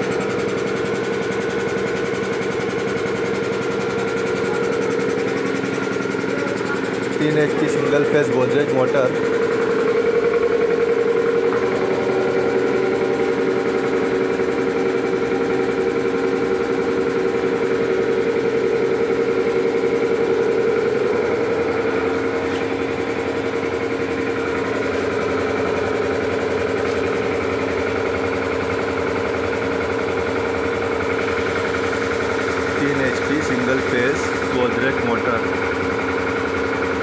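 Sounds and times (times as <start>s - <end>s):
air compressor pulsing and humming: 0.0s - 37.0s.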